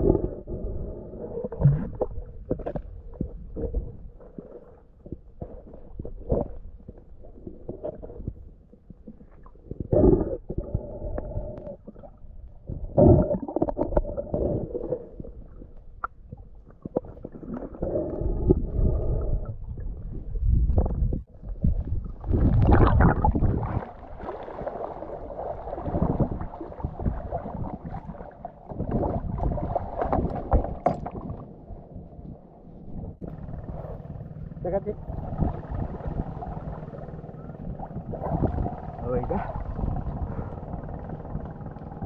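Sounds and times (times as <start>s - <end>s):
muffled underwater gurgling: 0.0s - 42.0s.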